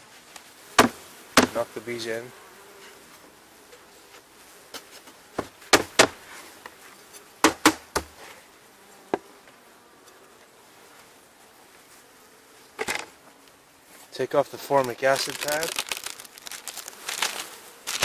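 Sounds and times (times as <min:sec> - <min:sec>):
bees buzzing: 0:00.5 - 0:18.0.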